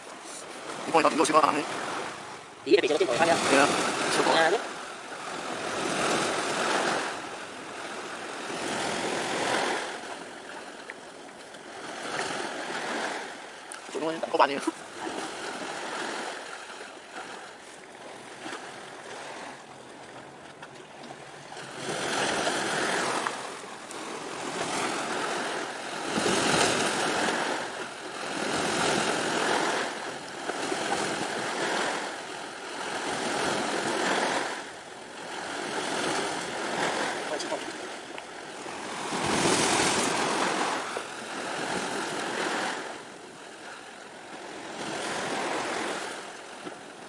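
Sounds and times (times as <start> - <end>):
small waves washing on shore: 0.0 - 47.0.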